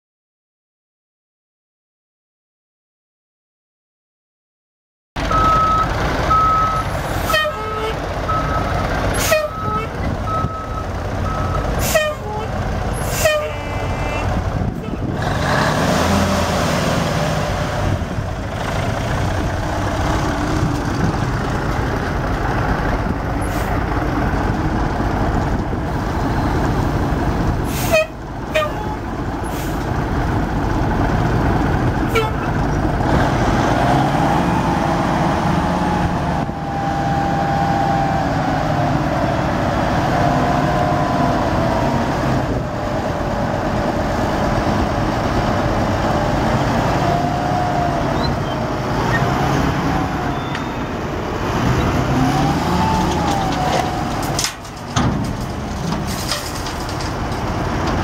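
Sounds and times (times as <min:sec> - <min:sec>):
diesel truck engine running: 0:05.2 - 0:58.0.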